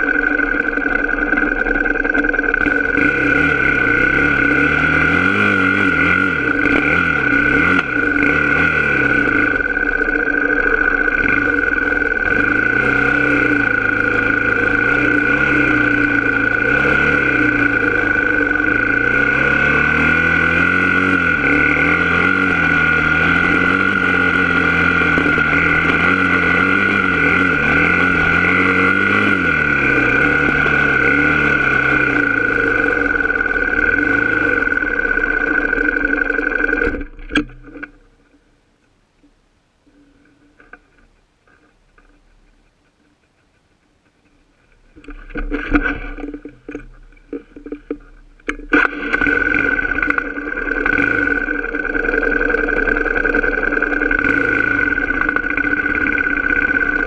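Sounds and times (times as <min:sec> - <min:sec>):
off-road vehicle engine revving: 0:00.0 - 0:38.1, 0:44.9 - 0:57.0
high whine: 0:00.0 - 0:57.0.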